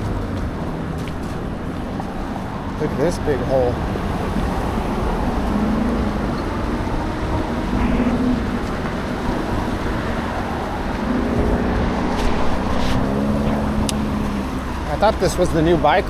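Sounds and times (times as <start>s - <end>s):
passing traffic: 0.0s - 16.0s
road and wind noise: 0.0s - 16.0s.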